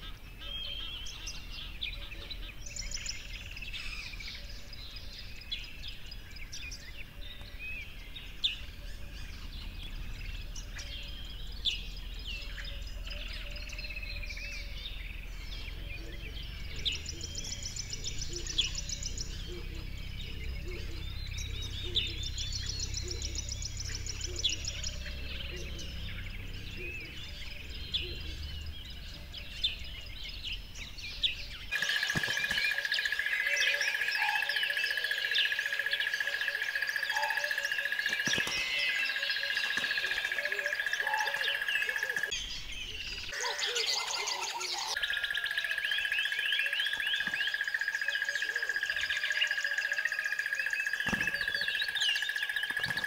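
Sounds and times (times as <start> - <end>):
birds chirping and singing: 0.0 - 53.0.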